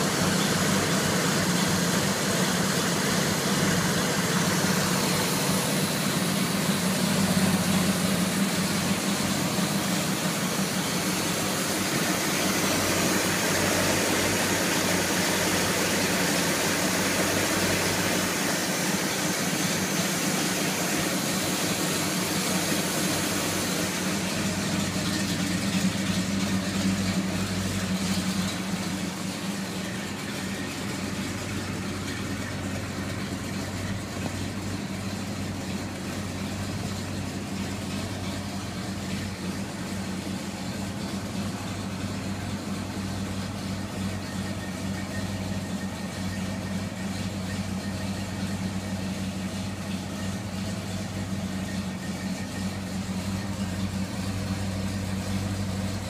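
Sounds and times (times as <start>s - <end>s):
vee eight engine idling: 0.0s - 56.0s.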